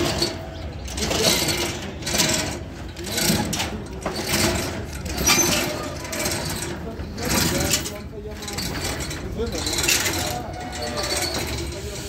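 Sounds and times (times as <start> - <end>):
roller shutter slats rattling: 0.0 - 12.0.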